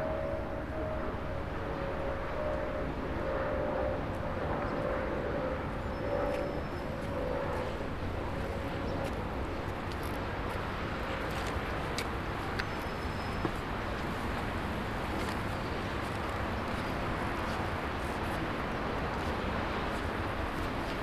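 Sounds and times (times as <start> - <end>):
airplane droning overhead: 0.0 - 21.0.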